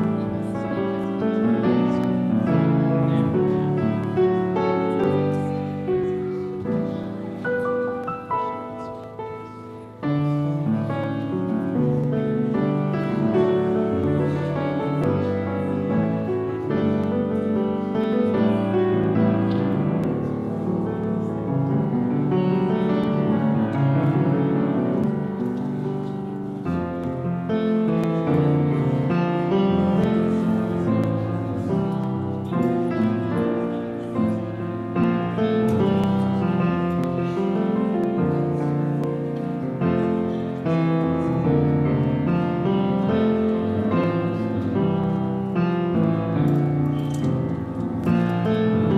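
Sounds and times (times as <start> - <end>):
instrumental piano music: 0.0 - 48.9.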